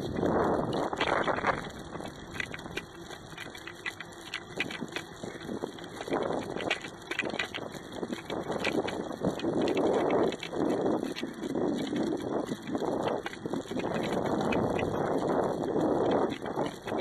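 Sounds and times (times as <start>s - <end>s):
bicycle clicking and rattling: 0.0s - 17.0s.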